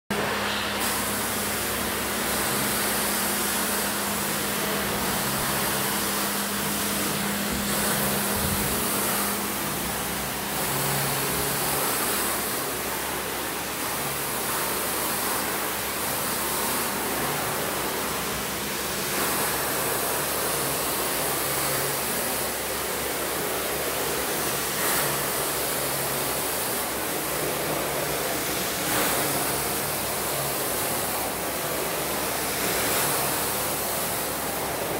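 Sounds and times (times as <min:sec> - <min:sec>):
wet vacuum sucking liquid: 0:00.2 - 0:34.9.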